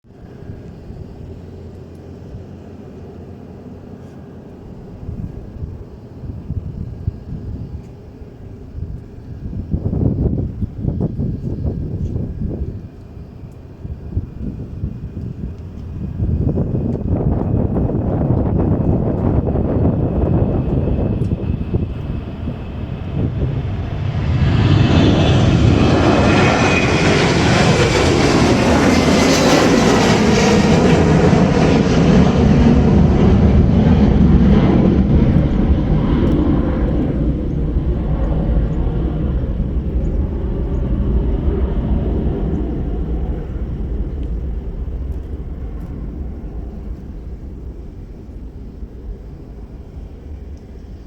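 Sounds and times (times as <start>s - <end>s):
high jet engine whine: 0.0s - 51.0s
jet airliner passing: 0.0s - 51.0s.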